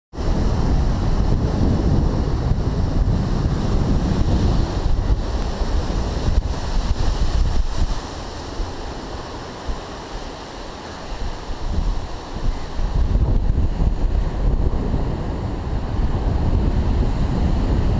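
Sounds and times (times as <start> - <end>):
wind buffeting microphone: 0.1 - 17.9
surf breaking on rocks: 0.2 - 17.9.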